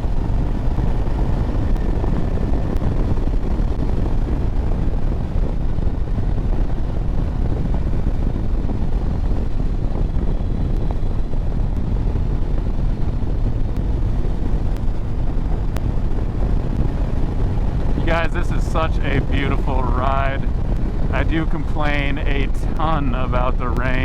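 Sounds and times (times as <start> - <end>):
motorcycle running drone: 0.0 - 24.0
wind buffeting microphone: 0.0 - 24.0.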